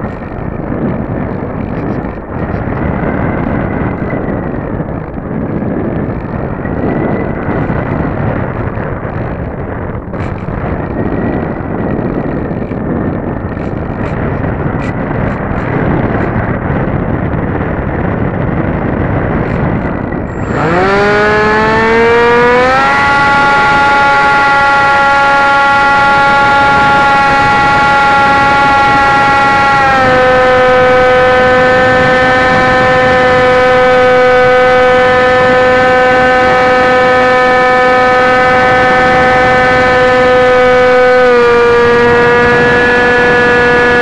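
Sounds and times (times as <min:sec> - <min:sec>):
electric motor and propeller whine: 0:00.0 - 0:44.0
wind rushing over microphone: 0:00.0 - 0:44.0.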